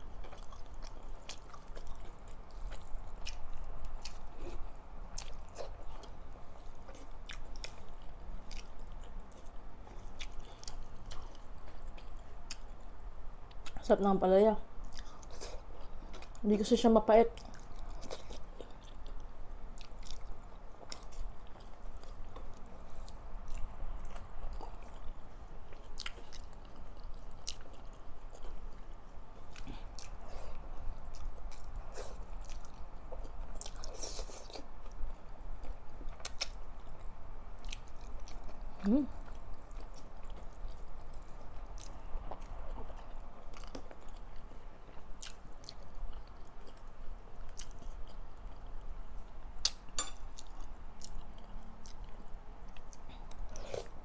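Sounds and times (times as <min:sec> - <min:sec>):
close chewing with crunches: 0:00.0 - 0:12.9, 0:14.8 - 0:54.0.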